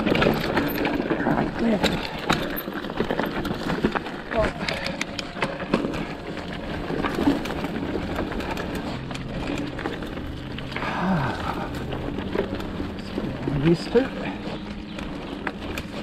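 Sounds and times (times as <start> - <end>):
bike rattling and clicking: 0.0 - 16.0
tyres crunching over dirt and stones: 0.0 - 16.0.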